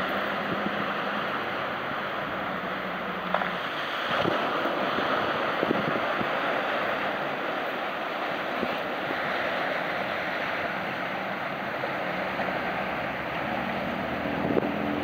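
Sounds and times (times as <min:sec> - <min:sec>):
ferry engine hum: 0:00.0 - 0:15.0
wind: 0:00.0 - 0:15.0.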